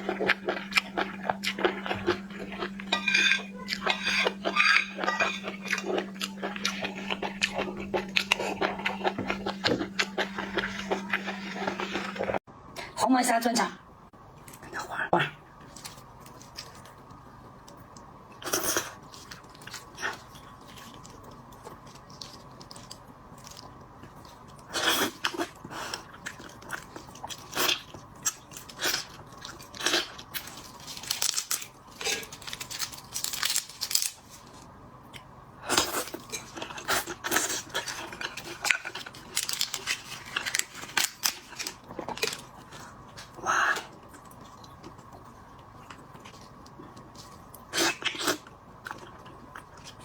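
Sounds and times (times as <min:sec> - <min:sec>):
chewing prawns with crunching shell: 0:00.0 - 0:12.4, 0:15.6 - 0:34.4, 0:35.1 - 0:50.0.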